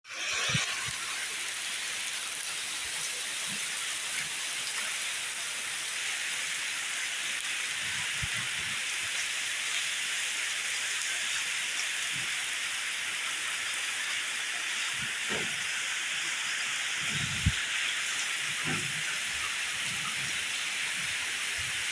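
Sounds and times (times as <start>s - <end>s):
heavy rain hissing: 0.2s - 21.9s.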